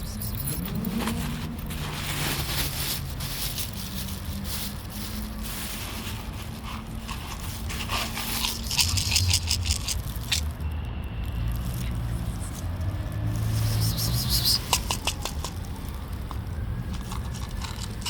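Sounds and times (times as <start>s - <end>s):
cats crunching dry food: 0.0s - 18.0s.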